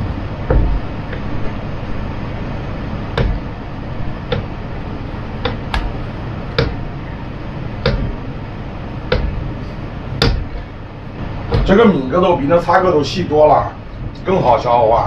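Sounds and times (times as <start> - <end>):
steady background rush: 0.0 - 15.0.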